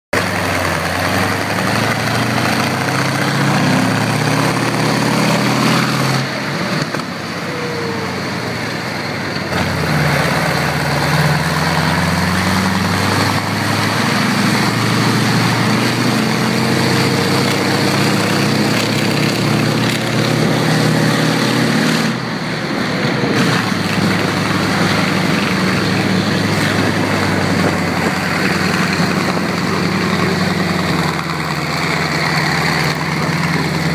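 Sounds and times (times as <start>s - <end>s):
tank engine running: 0.1s - 33.9s.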